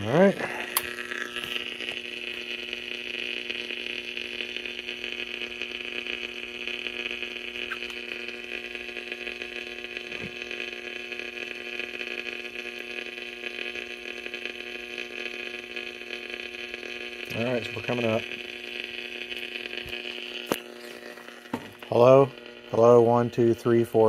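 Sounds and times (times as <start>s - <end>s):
mains hum: 0.0s - 24.0s
radio hiss: 0.0s - 24.0s.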